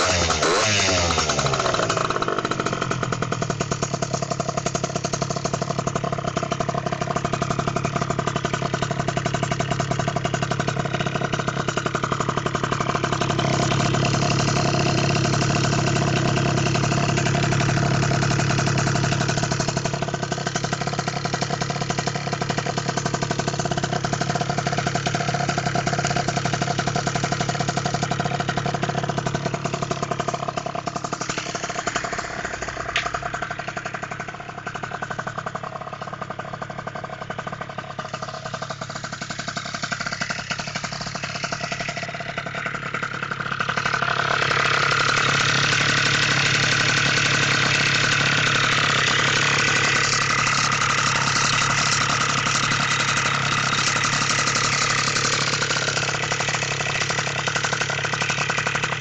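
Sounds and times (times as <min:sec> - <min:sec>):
scooter engine idling: 0:00.0 - 0:59.0.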